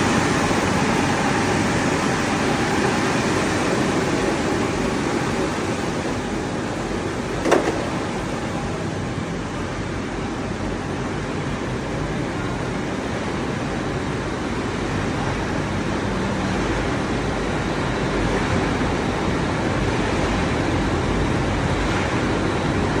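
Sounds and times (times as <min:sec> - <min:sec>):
washing machine running: 0:00.0 - 0:23.0.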